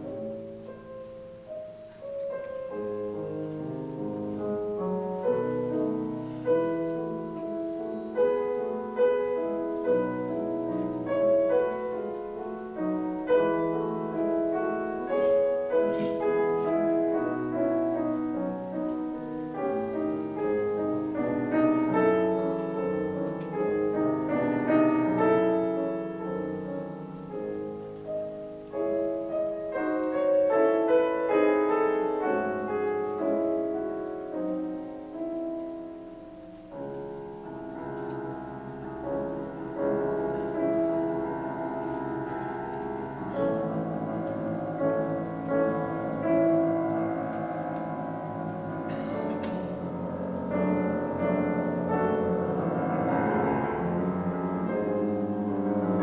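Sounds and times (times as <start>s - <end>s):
classical piano piece: 0.0s - 56.0s.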